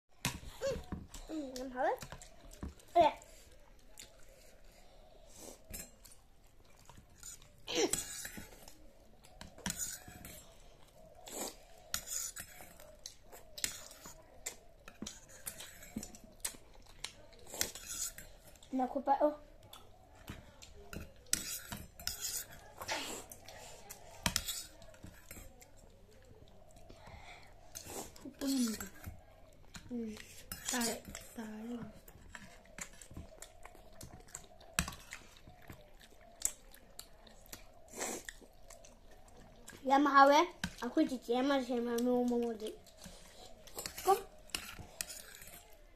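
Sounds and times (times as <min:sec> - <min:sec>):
chewing and slurping noodles: 0:02.0 - 0:18.8, 0:19.4 - 0:39.9, 0:42.3 - 0:45.9.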